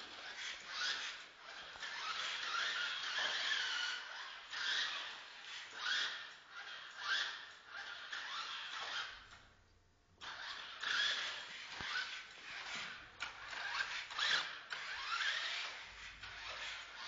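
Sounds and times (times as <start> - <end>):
toy car motor whirring: 0.0 - 9.4, 10.2 - 17.0.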